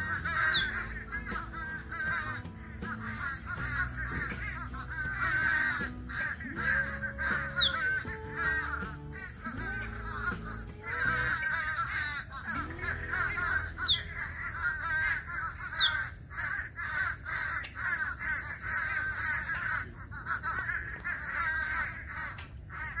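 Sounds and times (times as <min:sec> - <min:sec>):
crows cawing: 0:00.0 - 0:23.0.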